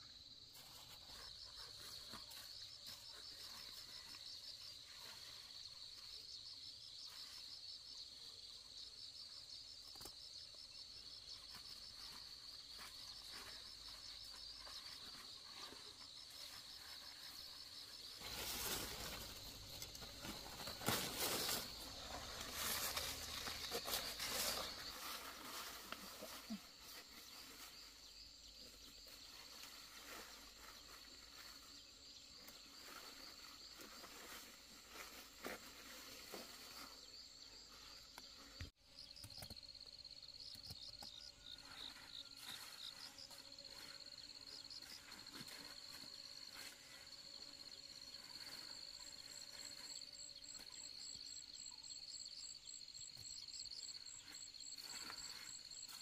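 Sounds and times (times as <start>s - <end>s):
insects chirping trill: 0.0s - 56.0s.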